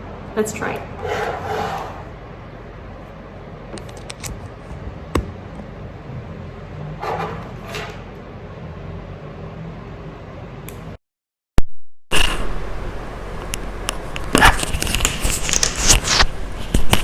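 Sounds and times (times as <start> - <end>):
steady low hum: 0.0 - 11.0, 12.1 - 17.0.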